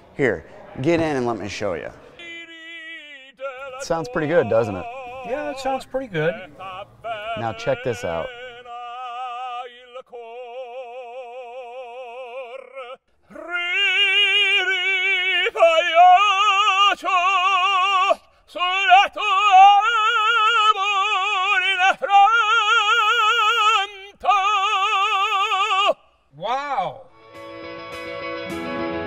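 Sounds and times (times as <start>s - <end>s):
operatic singing with vibrato: 2.0s - 26.4s.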